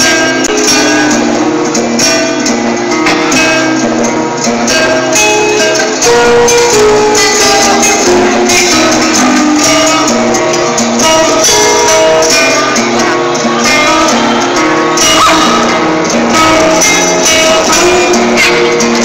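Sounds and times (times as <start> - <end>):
live heavy metal band: 0.0 - 19.0.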